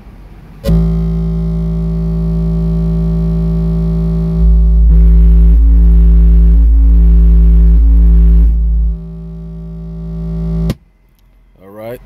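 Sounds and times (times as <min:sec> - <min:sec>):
low bass test tone: 0:00.6 - 0:10.8.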